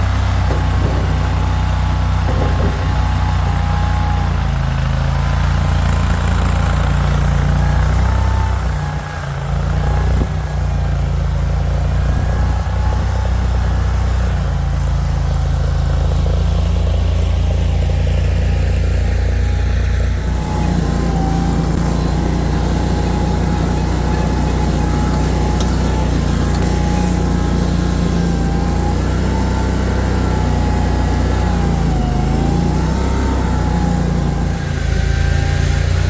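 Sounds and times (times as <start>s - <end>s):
skid steer engine running: 0.0s - 36.0s.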